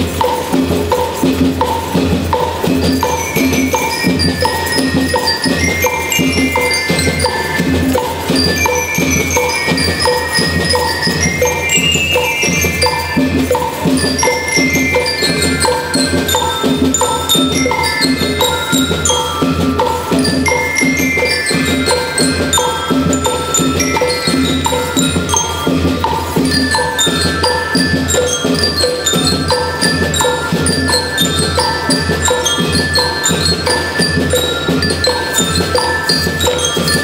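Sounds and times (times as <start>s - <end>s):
bell lyres playing high melody: 0.0s - 37.0s
marching drum beat: 0.0s - 37.0s.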